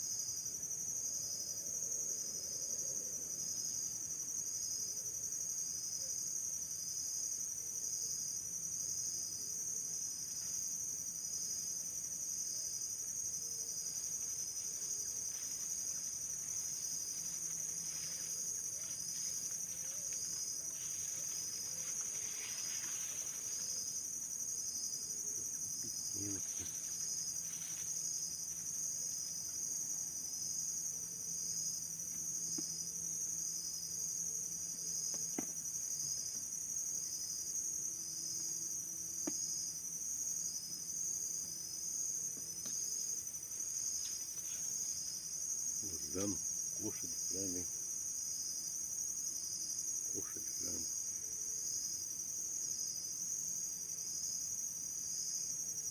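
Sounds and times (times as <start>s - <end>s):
insects chorus: 0.0s - 55.9s.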